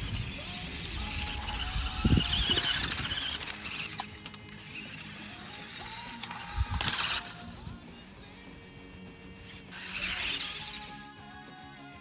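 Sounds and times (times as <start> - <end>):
toy car motor whirring: 0.0 - 7.8, 8.7 - 11.7.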